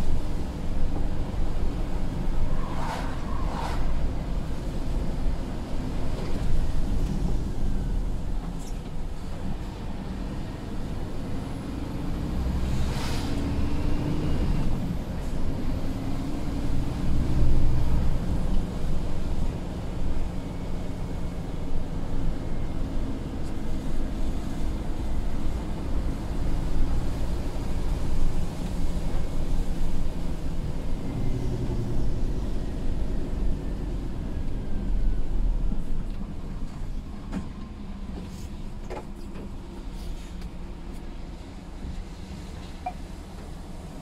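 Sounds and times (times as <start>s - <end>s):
lorry diesel engine droning: 0.0s - 44.0s
tyre and road noise: 0.0s - 44.0s.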